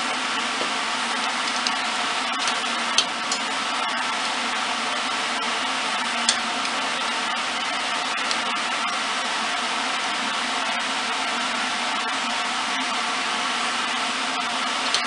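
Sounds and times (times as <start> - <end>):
machine motor whirring: 0.0 - 15.0.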